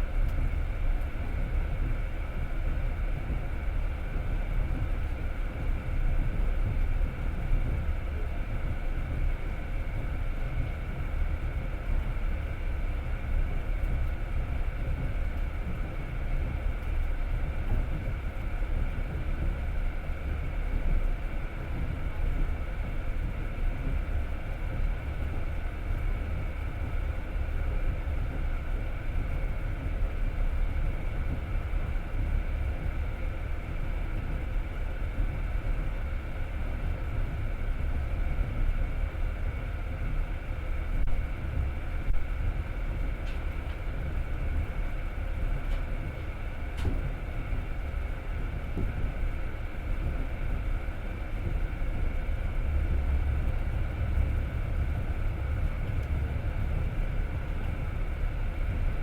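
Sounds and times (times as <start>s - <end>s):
faint steady hum: 0.0s - 59.0s
train wheels rumbling on rails: 0.0s - 59.0s.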